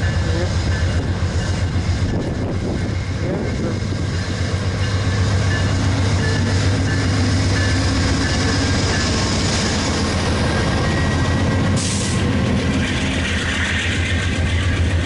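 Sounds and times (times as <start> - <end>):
train low drone: 0.0 - 15.0
wheels rushing on rails: 0.0 - 15.0.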